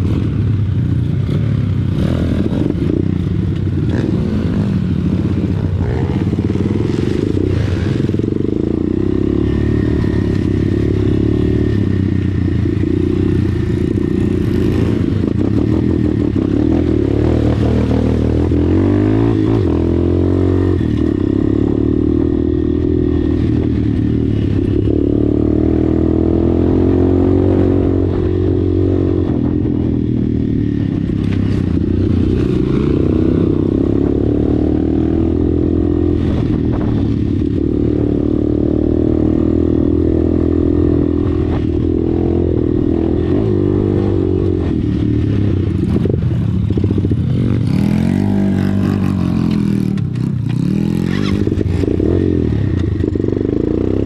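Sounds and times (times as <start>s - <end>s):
dirt bike engine revving: 1.1s - 54.0s.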